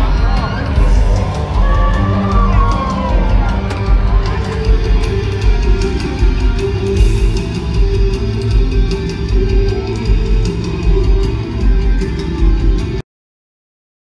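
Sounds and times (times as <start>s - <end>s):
low bass hits: 0.0s - 12.0s
live rock music: 0.0s - 13.0s.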